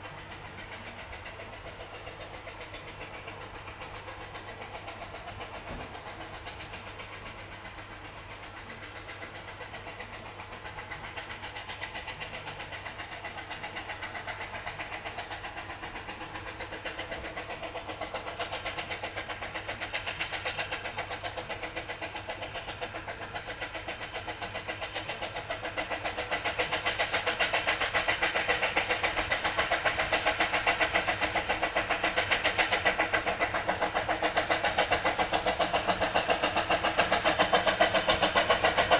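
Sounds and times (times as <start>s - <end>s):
steam locomotive exhaust beats: 0.0s - 38.9s.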